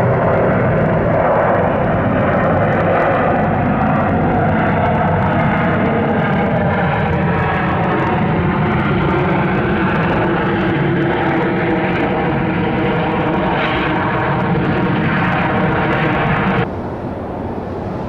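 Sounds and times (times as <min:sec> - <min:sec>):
jet engines roaring on runway: 0:00.0 - 0:18.0.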